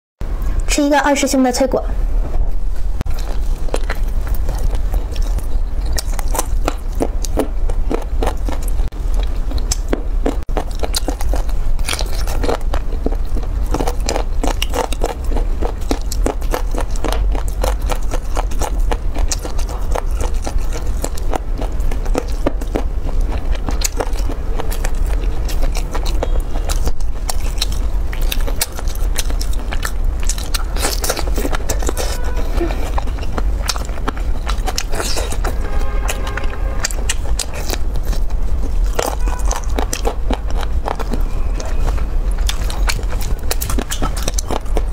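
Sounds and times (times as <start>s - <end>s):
steady low hum: 0.2s - 44.9s
chewing with sharp crunches: 3.0s - 44.9s.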